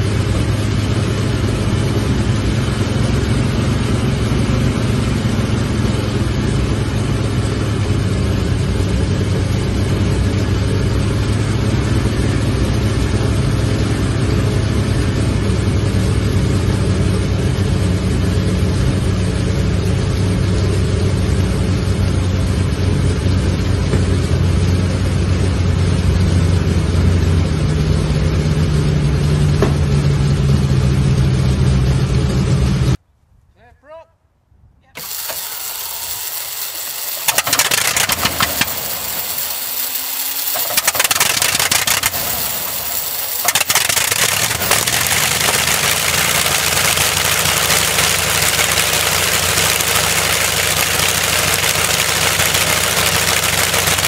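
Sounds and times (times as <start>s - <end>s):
radial aircraft engine running: 0.0s - 33.0s, 35.0s - 54.0s.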